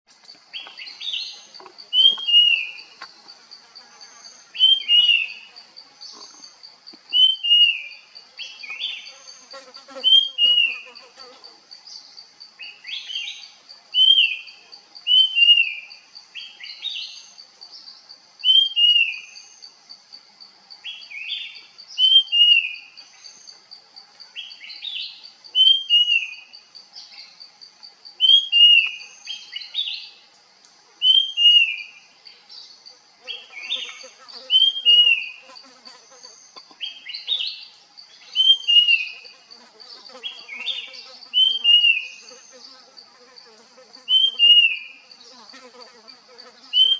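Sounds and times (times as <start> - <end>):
high insect trill: 0.1 - 46.9.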